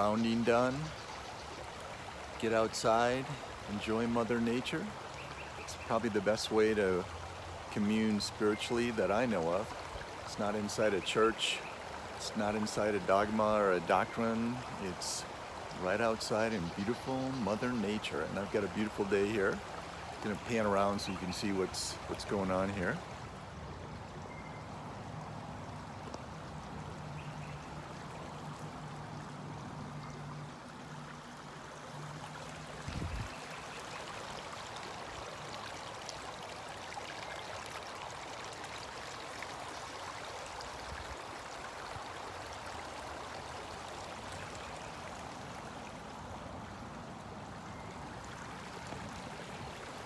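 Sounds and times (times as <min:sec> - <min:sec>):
stream rushing and gurgling: 0:00.0 - 0:50.0.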